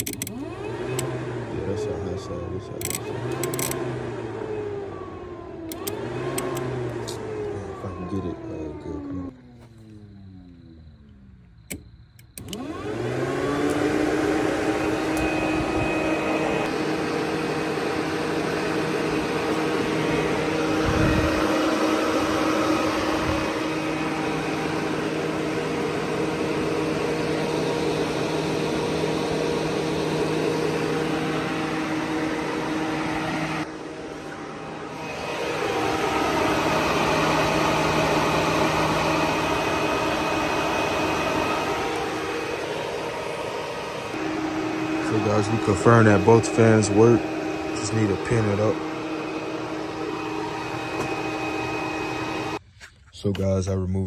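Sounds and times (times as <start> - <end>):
electric fan whining: 0.0 - 53.7.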